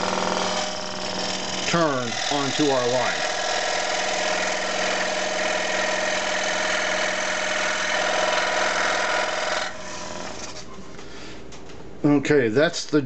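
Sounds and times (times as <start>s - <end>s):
scroll saw cutting wood: 0.0s - 10.7s.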